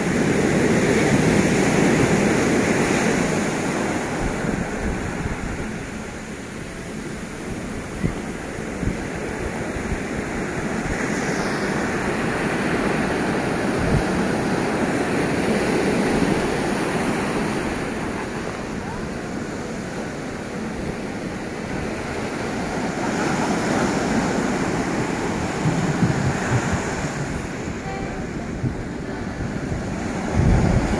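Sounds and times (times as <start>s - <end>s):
surf breaking over rocks: 0.0s - 30.9s
wind buffeting microphone: 0.0s - 30.9s.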